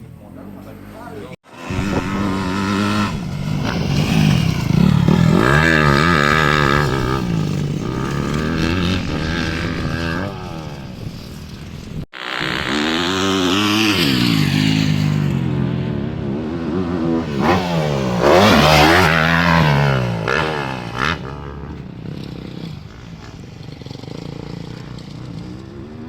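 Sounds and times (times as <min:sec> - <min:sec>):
motorcycle engine revving: 0:00.3 - 0:26.0.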